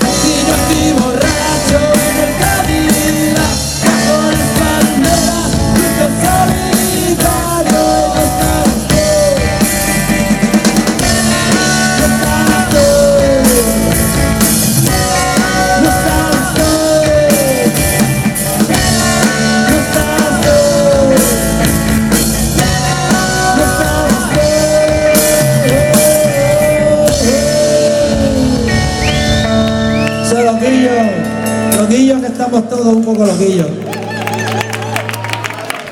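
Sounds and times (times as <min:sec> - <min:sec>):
drum kit: 0:00.0 - 0:32.5
guitar: 0:00.0 - 0:35.9.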